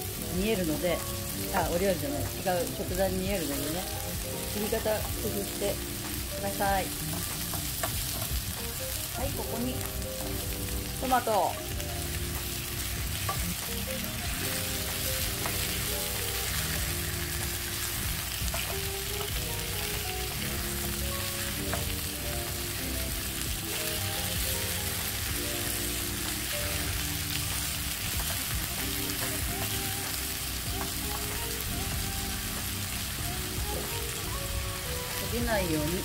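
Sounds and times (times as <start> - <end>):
food sizzling in a frying pan: 0.0 - 36.0.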